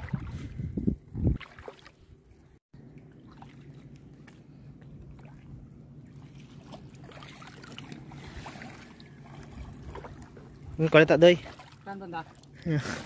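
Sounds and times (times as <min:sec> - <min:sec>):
steady low hum: 0:00.0 - 0:13.0
water splashing while wading: 0:00.0 - 0:13.0.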